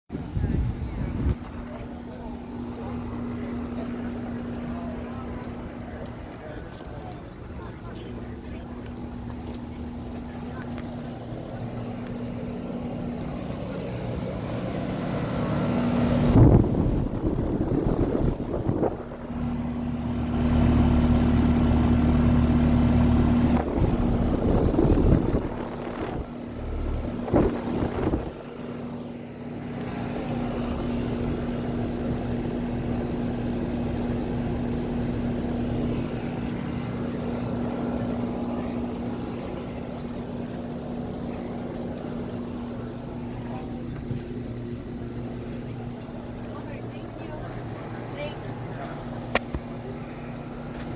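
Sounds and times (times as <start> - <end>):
air conditioner humming: 0.1 - 50.9.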